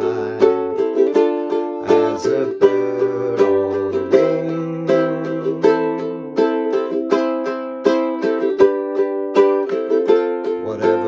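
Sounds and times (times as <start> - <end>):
ukulele strumming: 0.0 - 11.0.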